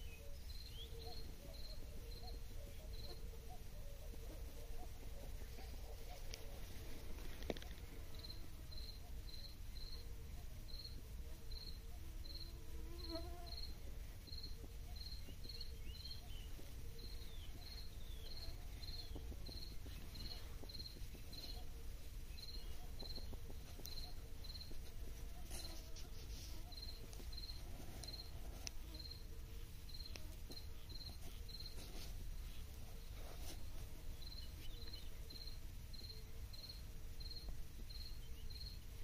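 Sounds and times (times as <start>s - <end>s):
cricket chirping: 0.0s - 6.6s, 7.2s - 33.6s, 34.2s - 39.0s.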